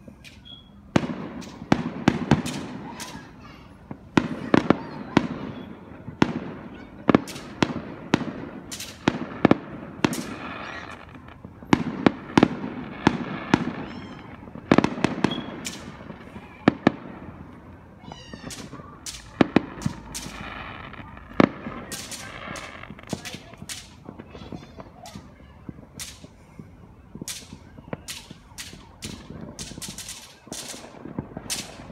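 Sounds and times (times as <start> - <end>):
rising firework whistle: 0.0 - 3.2, 4.2 - 31.9
fireworks bangs: 0.0 - 31.9.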